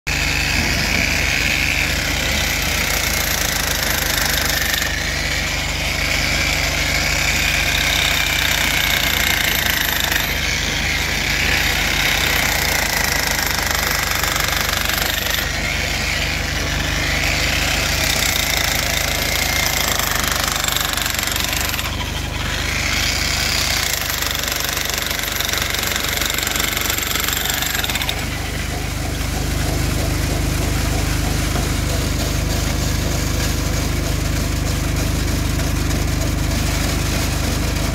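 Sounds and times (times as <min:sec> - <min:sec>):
stone cutter grinding whine: 0:00.1 - 0:34.6
engine drone: 0:00.1 - 0:37.9.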